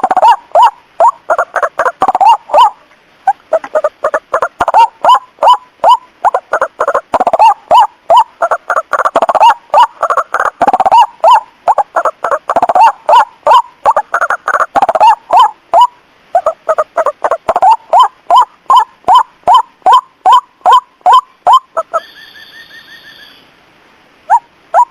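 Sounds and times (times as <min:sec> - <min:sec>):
waterhen calls: 0:00.0 - 0:23.6, 0:24.2 - 0:24.9.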